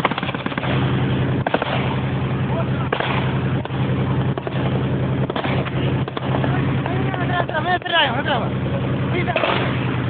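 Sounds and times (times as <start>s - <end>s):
sharp bangs: 0.0s - 8.1s, 9.2s - 10.0s
armoured vehicle engine running: 0.0s - 10.0s.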